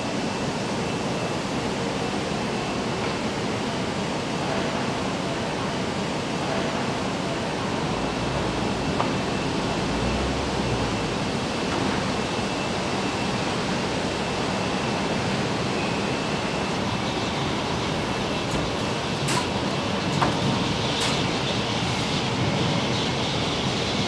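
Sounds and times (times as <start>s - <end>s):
factory hall noise: 0.0s - 24.0s.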